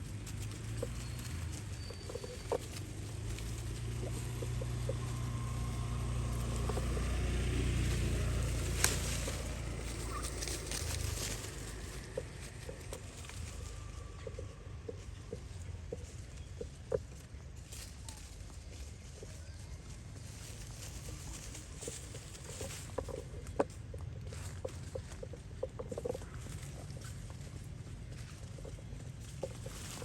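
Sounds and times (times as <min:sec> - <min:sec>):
animal calls: 0:00.0 - 0:18.2, 0:20.8 - 0:30.0.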